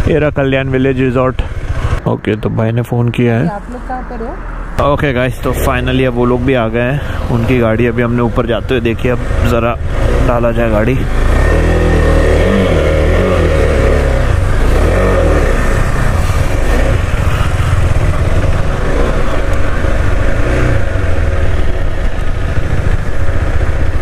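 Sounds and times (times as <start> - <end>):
motorcycle engine riding: 0.0 - 24.0.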